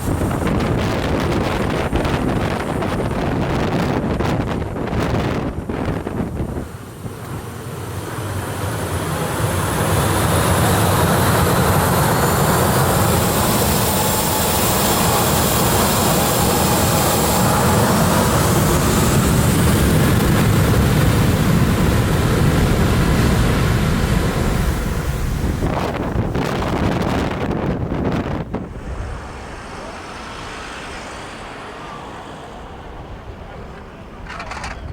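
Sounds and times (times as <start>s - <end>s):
airliner engines roaring: 0.0s - 34.9s
engine whine shifting in pitch: 0.0s - 34.9s.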